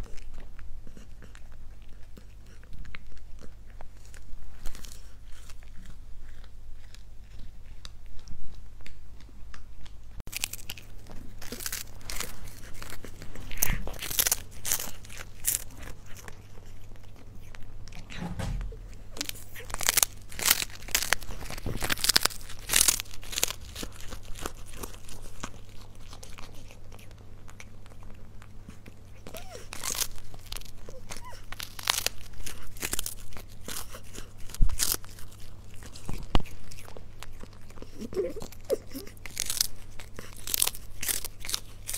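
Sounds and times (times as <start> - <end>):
cat crunching dried fish: 0.0 - 41.9.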